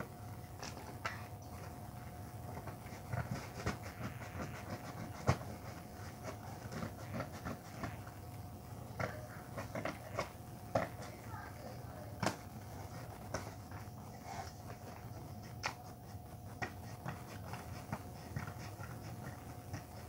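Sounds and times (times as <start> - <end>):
ceiling fan hum: 0.0 - 20.0.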